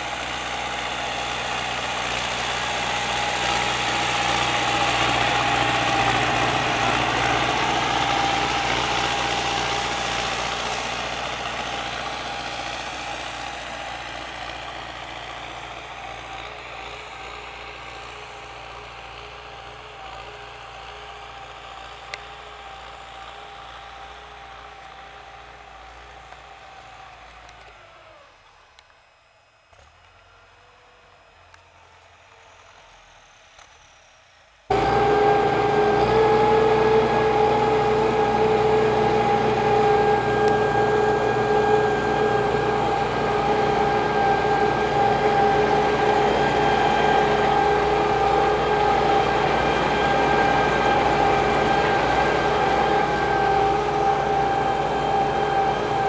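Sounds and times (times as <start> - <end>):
tractor diesel engine running: 0.0 - 28.6, 34.6 - 56.0.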